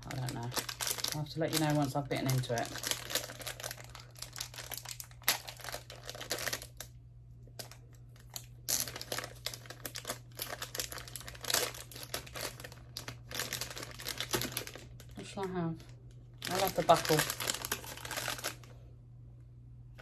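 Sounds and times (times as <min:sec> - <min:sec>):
packaging crinkling: 0:00.0 - 0:18.8
steady low hum: 0:00.0 - 0:20.0.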